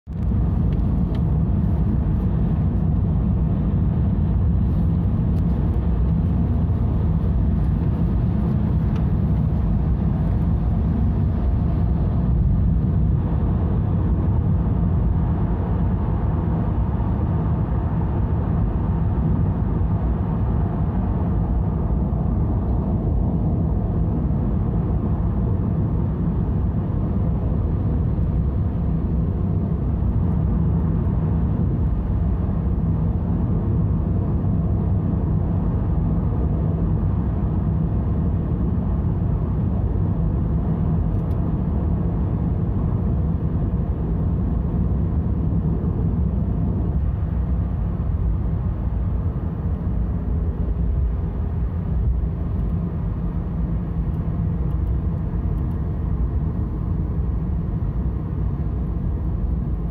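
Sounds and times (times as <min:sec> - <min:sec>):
road noise inside vehicle: 0:00.0 - 0:59.9.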